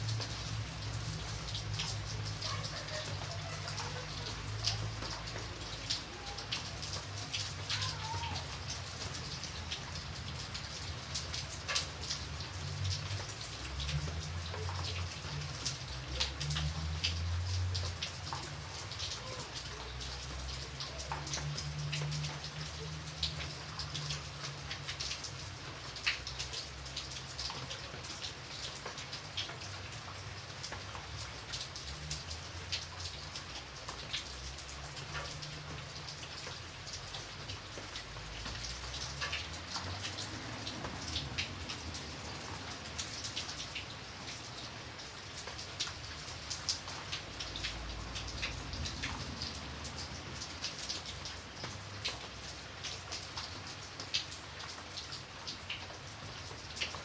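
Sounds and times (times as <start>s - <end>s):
raindrops ticking on hard surface: 0.0s - 57.0s.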